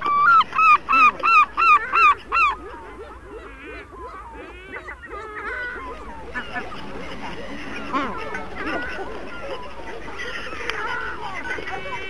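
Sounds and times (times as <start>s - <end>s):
waterbirds calling: 0.0s - 12.0s.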